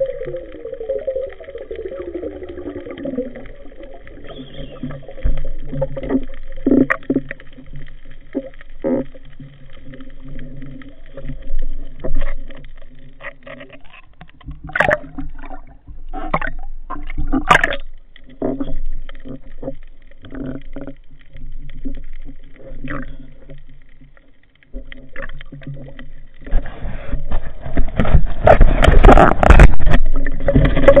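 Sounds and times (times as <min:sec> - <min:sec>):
muffled underwater movement: 0:00.0 - 0:31.0.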